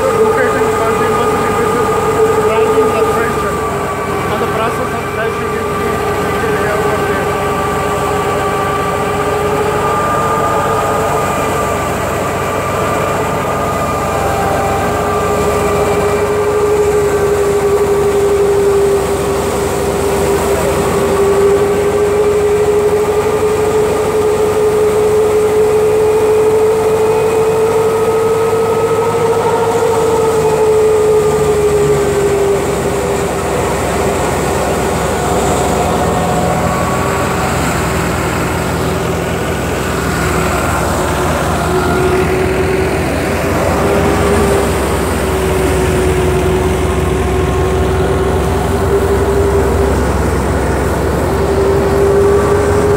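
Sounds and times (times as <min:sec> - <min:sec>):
thresher machine droning: 0:00.0 - 0:52.9.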